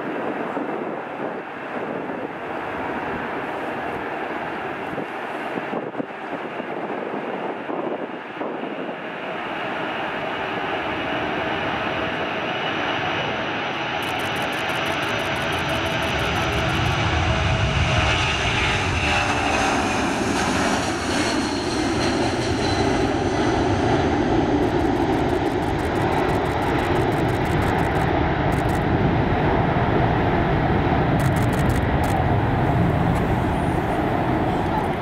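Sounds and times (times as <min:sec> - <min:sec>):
high jet whine: 0:00.0 - 0:35.0
loud jet engine roar: 0:00.0 - 0:35.0.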